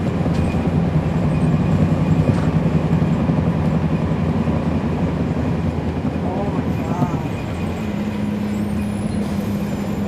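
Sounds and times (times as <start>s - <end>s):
bus diesel engine humming: 0.0s - 10.0s.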